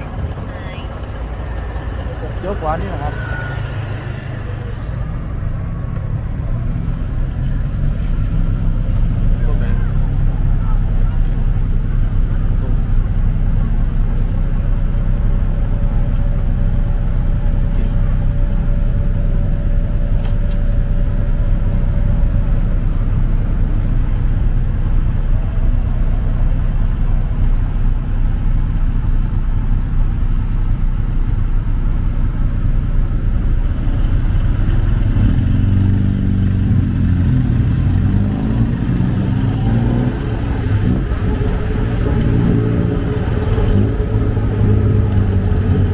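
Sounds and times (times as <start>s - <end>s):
motorcycle engine rumble: 0.0s - 45.9s
road noise: 0.0s - 45.9s.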